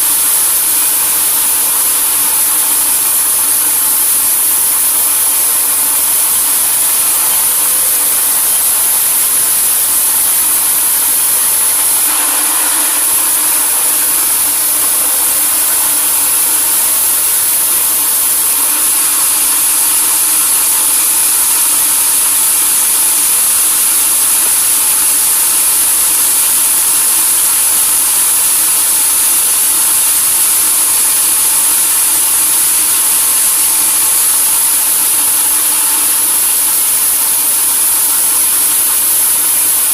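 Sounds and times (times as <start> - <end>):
high mechanical whine: 0.0 - 39.9
sawmill machinery running: 0.0 - 39.9.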